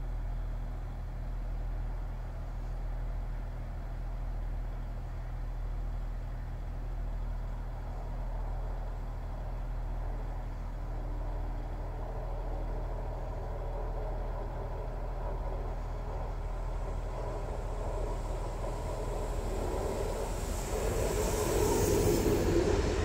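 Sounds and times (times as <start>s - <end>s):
steady low hum: 0.0s - 23.0s
train rumbling on tracks: 0.0s - 23.0s.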